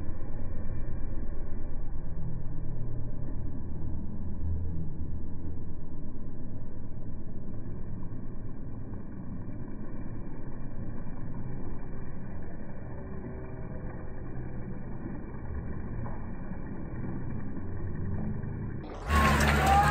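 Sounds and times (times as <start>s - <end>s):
bicycles rumbling past: 0.1s - 19.9s.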